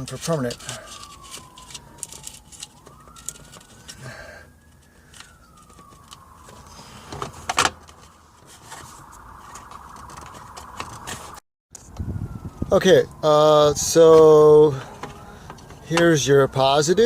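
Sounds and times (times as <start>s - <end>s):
faint wailing siren: 0.0s - 17.0s.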